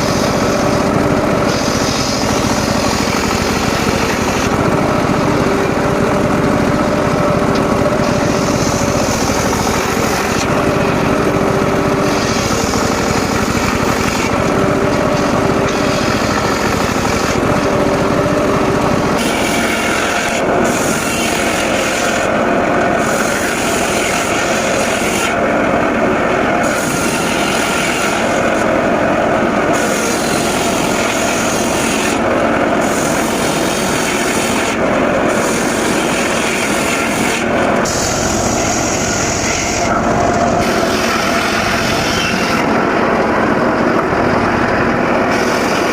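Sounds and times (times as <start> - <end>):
circular saw cutting wood: 0.0 - 45.9
engine running under load: 0.0 - 45.9.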